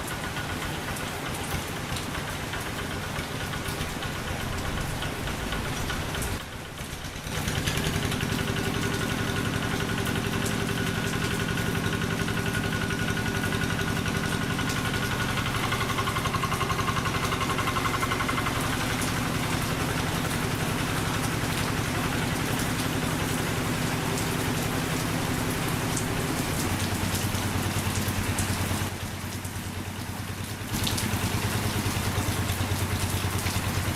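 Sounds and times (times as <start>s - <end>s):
diesel hand tractor engine running: 0.0s - 33.9s.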